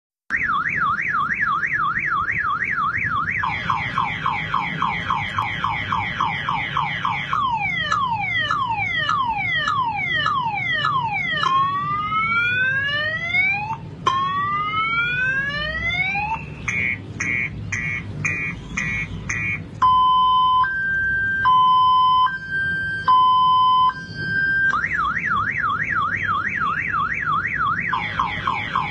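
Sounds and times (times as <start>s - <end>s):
electronic alarm siren: 0.3s - 28.9s.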